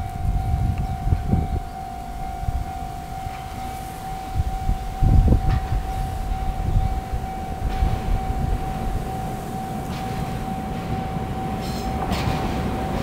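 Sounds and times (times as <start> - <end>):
level crossing alarm bell: 0.0 - 13.0.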